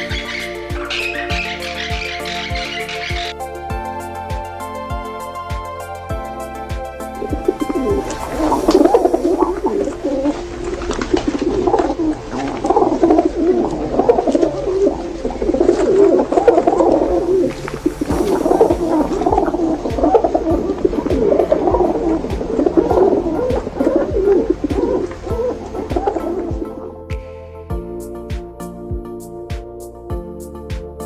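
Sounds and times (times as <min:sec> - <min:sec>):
flock of birds calling: 0:00.0 - 0:26.8.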